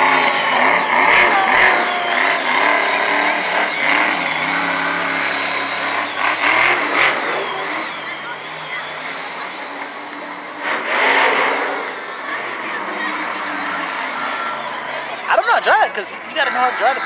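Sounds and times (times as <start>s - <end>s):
truck engine revving: 0.0s - 17.0s
voices: 0.0s - 17.0s.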